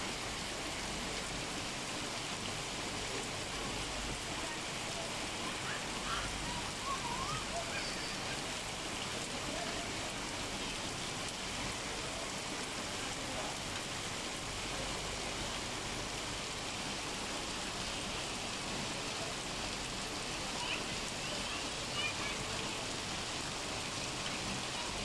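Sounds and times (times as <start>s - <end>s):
rain falling on concrete roofs: 0.0s - 25.0s.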